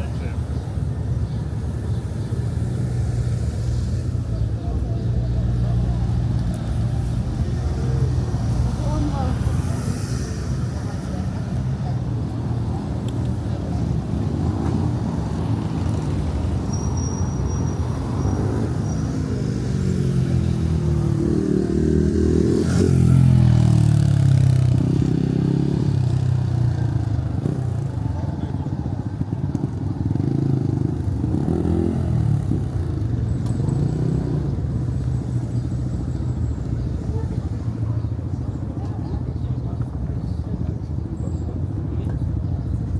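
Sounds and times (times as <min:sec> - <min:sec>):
vehicle engines in street traffic: 0:00.0 - 0:42.9.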